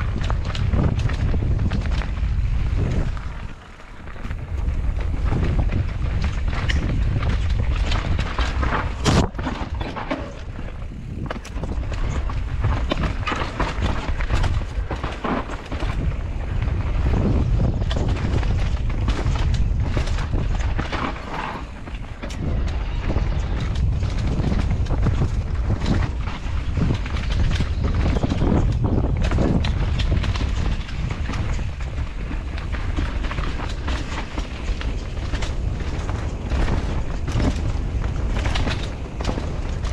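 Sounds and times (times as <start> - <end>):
bike knocks and clatter over bumps: 0.0 - 39.9
bike tyres rolling on dirt: 0.0 - 39.9
wind buffeting microphone: 0.0 - 39.9.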